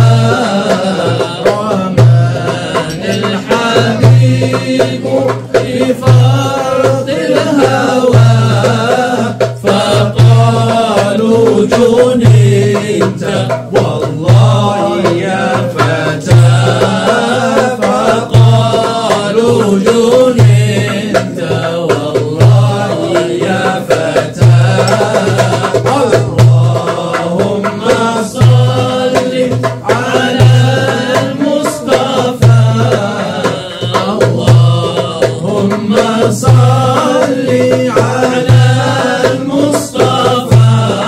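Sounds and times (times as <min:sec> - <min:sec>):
deep low beat: 0:00.0 - 0:41.0
men singing devotional song: 0:00.0 - 0:41.0.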